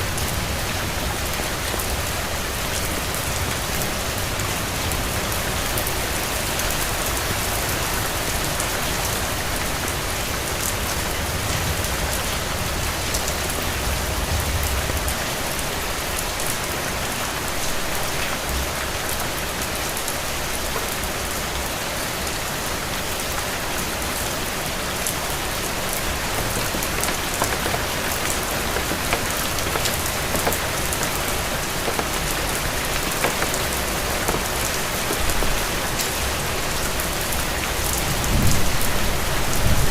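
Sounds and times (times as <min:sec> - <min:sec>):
rain falling on hard surface: 0:00.0 - 0:39.9.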